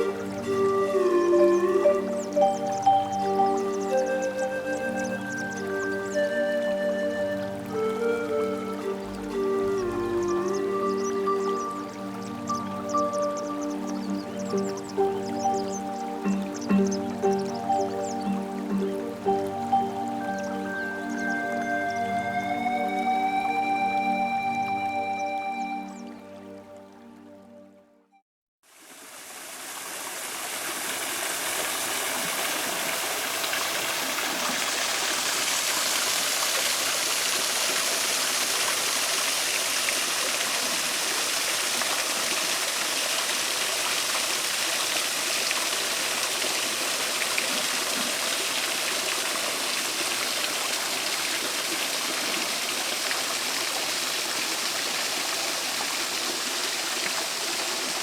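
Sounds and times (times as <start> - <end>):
stream water rushing: 0.0 - 27.2, 28.7 - 58.0.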